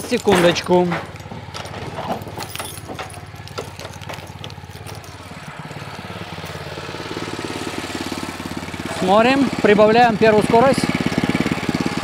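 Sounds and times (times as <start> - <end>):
petrol engine idling: 0.0 - 12.0.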